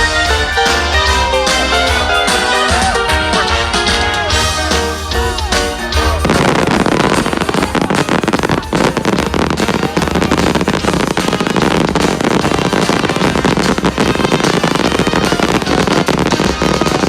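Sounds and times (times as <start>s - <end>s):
fireworks bangs and crackling: 0.0s - 17.0s
show music: 0.0s - 17.0s.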